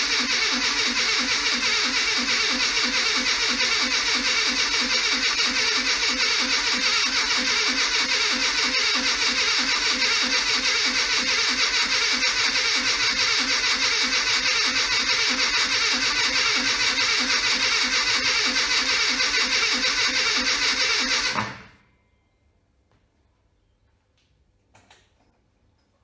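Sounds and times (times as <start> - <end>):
engine cranking on starter motor: 0.0 - 21.8.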